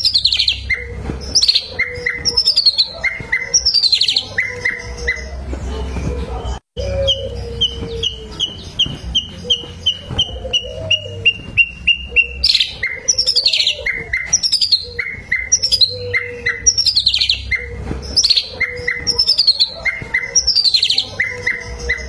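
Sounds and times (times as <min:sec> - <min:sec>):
bird singing chirps and trills: 0:00.0 - 0:22.0.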